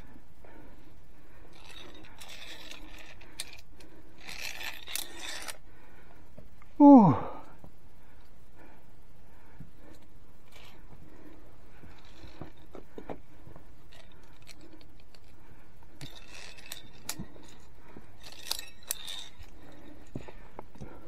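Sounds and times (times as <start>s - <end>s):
climbing gear clinking on steel cable: 0.0s - 5.7s, 9.8s - 21.0s.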